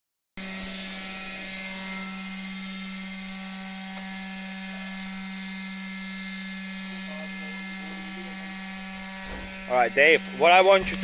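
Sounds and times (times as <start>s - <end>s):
concrete vibrator buzzing: 0.4s - 11.0s.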